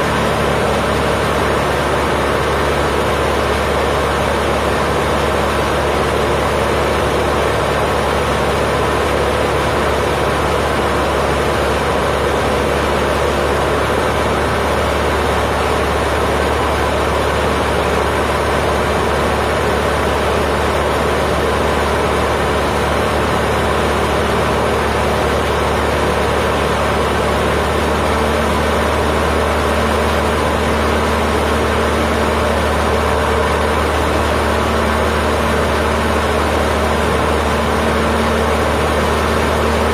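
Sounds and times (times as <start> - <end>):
small plane engine drone: 0.0 - 39.9.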